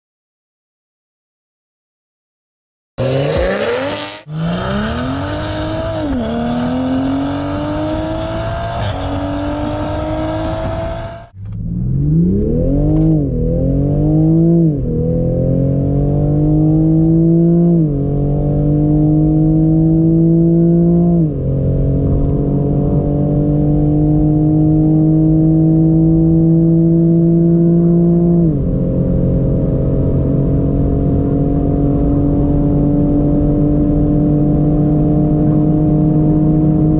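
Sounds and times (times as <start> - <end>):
car engine accelerating through gears: 3.0 - 36.9.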